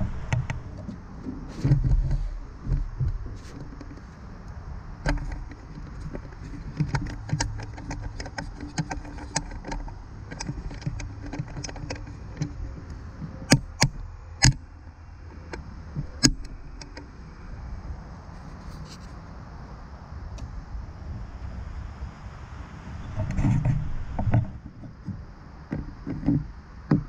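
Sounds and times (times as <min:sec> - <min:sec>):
steady low rumble: 0:00.0 - 0:26.8.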